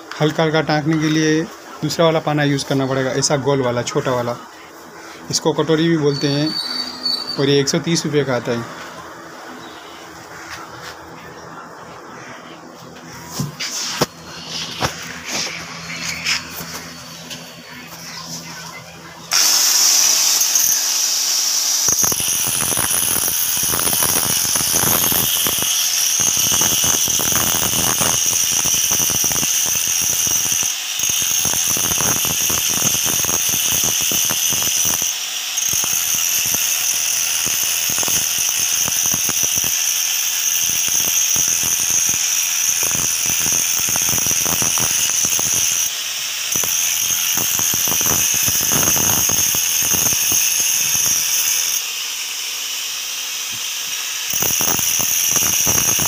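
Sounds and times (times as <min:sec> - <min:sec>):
angle grinder whine: 0:00.0 - 0:56.0
grinder grinding stone: 0:05.1 - 0:09.0, 0:12.9 - 0:56.0.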